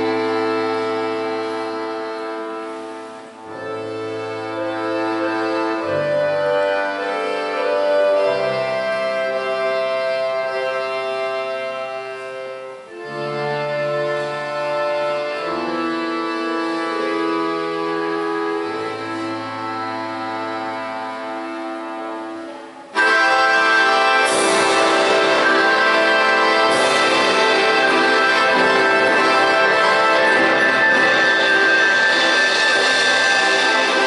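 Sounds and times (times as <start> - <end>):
button accordions: 0.0 - 34.0
folk orchestra playing chords: 0.0 - 34.0.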